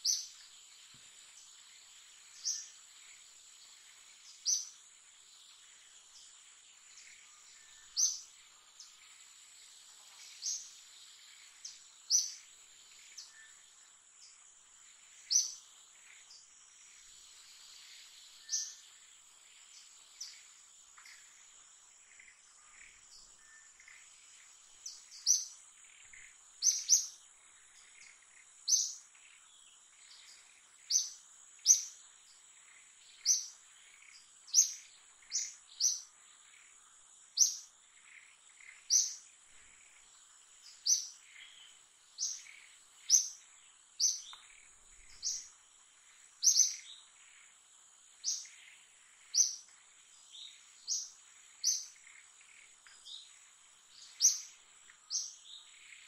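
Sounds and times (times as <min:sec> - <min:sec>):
bird chirping: 0:00.0 - 0:14.4, 0:15.0 - 0:56.0
insects droning: 0:00.0 - 0:56.0.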